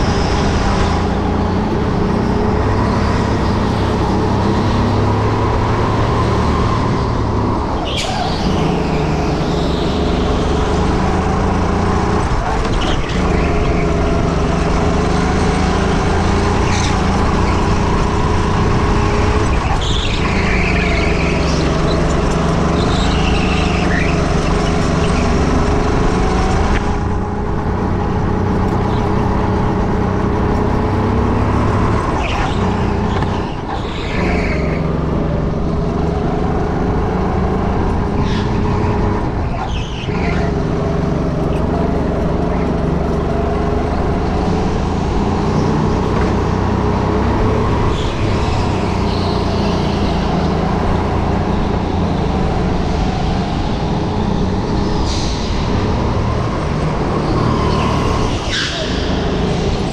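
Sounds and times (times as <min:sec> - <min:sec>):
go-kart motor running: 0:00.0 - 0:54.7.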